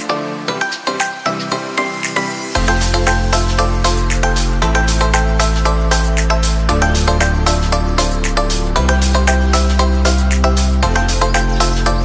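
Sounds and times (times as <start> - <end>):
background music with bass and beat: 0.0 - 12.0.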